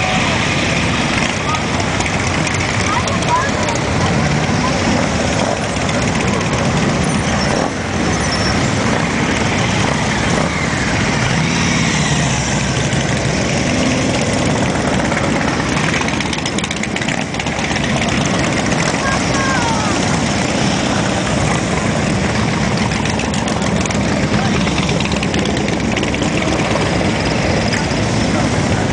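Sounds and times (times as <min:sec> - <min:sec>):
motorcycles riding past: 0:00.0 - 0:28.9.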